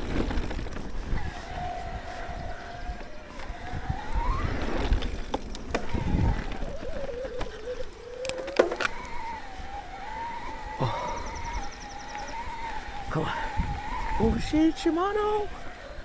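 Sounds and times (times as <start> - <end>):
electric bike motor whining: 0.0 - 16.0.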